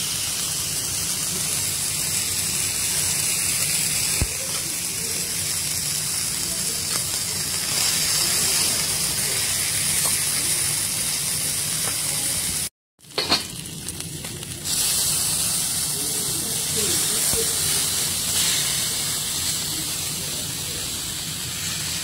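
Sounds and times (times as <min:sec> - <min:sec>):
steaks sizzling on a griddle: 0:00.0 - 0:12.7, 0:13.5 - 0:22.0.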